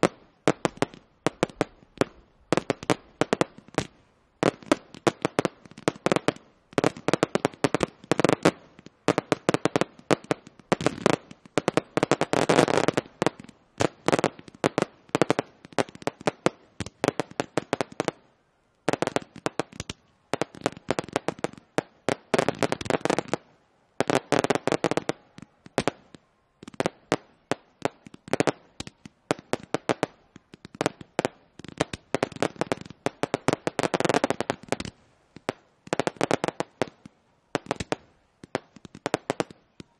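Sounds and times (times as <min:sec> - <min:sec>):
fireworks pops bursts and crackles: 0:00.0 - 0:39.9.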